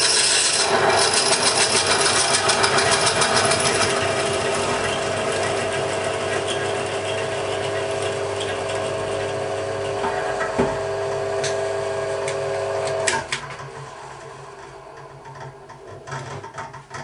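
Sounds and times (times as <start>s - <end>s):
drill press motor humming: 0.0s - 17.0s.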